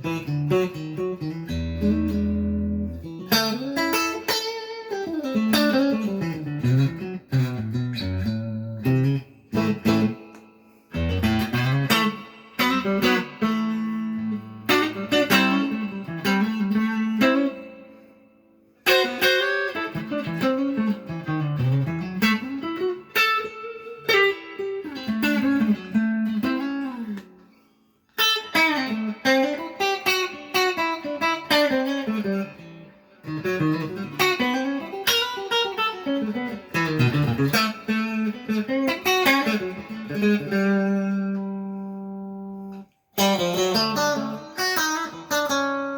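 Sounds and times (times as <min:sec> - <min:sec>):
clean electric guitar playing: 0:00.0 - 0:45.9.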